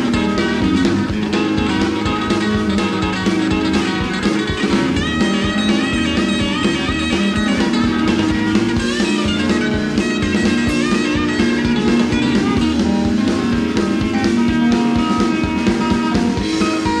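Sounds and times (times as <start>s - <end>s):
bass and drums: 0.0s - 17.0s
electric guitar solo: 0.0s - 17.0s.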